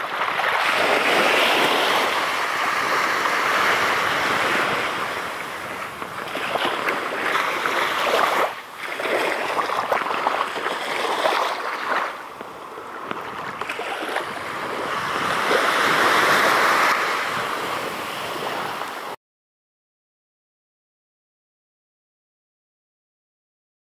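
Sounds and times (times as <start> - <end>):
surf washing onto sand: 0.0 - 19.2.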